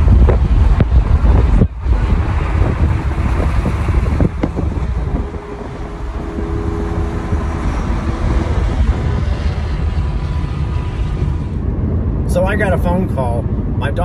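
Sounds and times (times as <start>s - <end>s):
car road and engine roar: 0.0s - 14.0s
passing cars: 0.0s - 14.0s
wind buffeting microphone: 0.0s - 14.0s.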